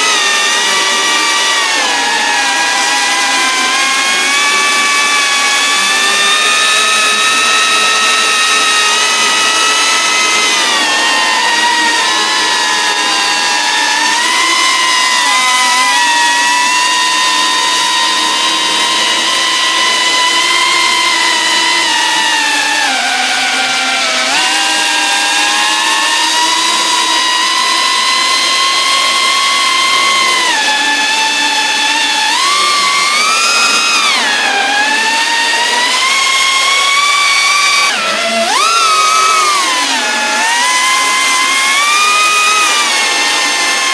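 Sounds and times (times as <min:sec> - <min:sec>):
drone propellers whining: 0:00.0 - 0:43.9.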